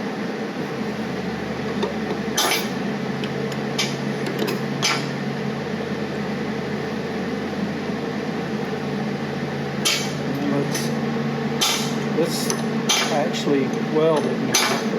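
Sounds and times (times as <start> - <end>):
fan humming: 0.0 - 14.9.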